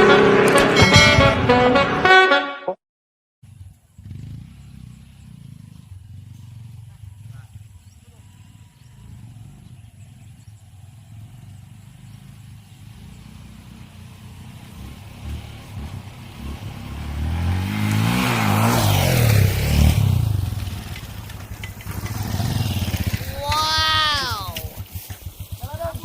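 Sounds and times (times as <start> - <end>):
motorcycle passing by: 3.4 - 26.0.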